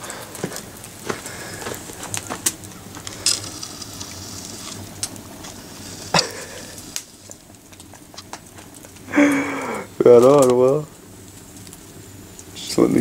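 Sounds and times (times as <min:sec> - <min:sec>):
sharp fire pops: 0:00.0 - 0:12.8
campfire crackling: 0:00.0 - 0:13.0.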